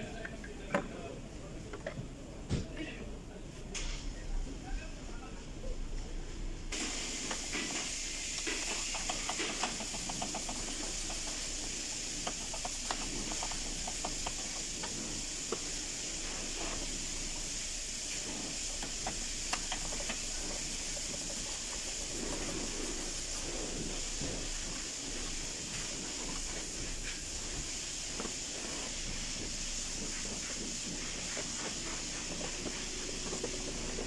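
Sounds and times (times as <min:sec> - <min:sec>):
steady high hiss: 0:06.4 - 0:34.0.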